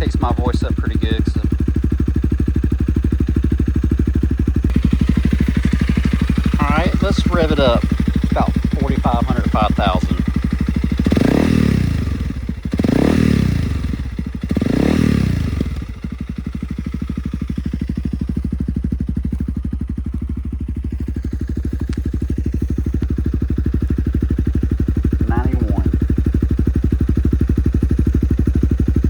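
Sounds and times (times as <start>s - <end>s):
motorcycle engine revving and idling: 0.0s - 29.0s.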